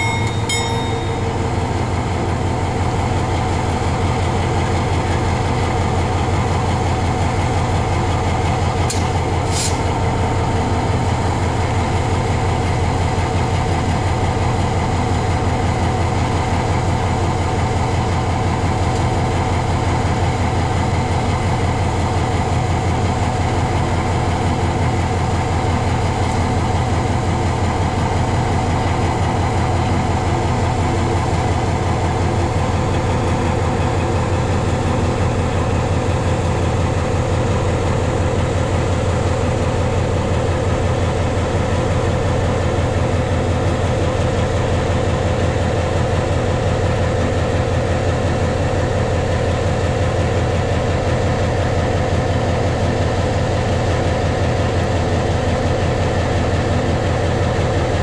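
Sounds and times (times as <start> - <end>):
diesel locomotive engine throbbing: 0.0 - 58.0.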